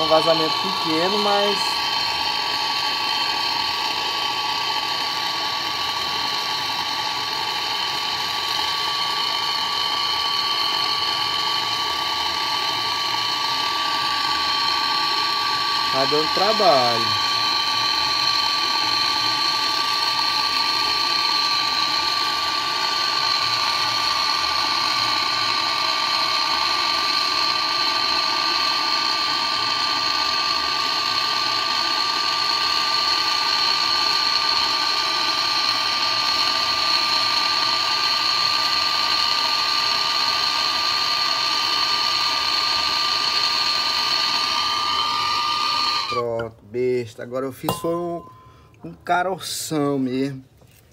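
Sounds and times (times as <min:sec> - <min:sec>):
gas torch hissing with faint whistle: 0:00.0 - 0:50.4.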